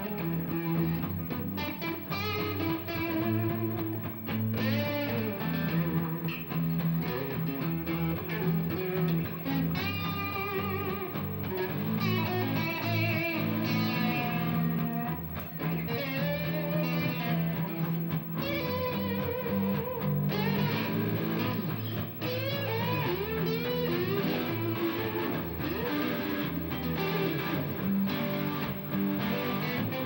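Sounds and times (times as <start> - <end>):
electric guitar chords: 0.0 - 30.0
electric guitar lead line: 0.0 - 30.0.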